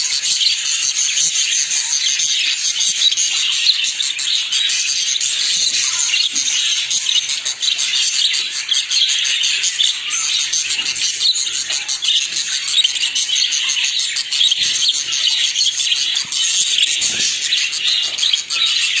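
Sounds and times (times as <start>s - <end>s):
budgerigars chattering: 0.0s - 19.0s.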